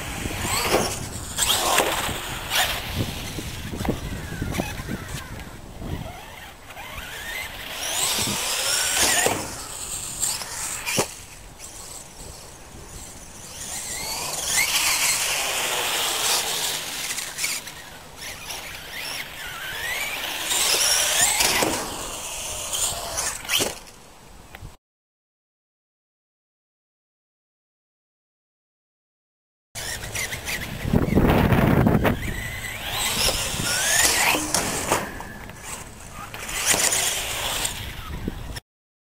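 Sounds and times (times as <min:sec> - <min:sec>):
electric motor whining: 0:00.0 - 0:23.9, 0:29.8 - 0:38.6.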